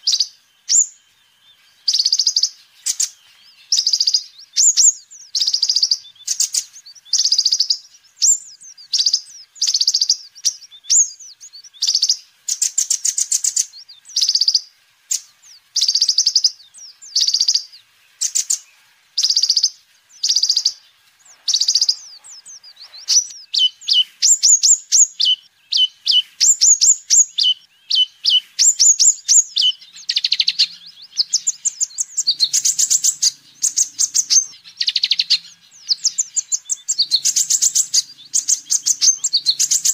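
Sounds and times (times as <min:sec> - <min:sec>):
sunbird twittering: 0:00.0 - 0:39.9.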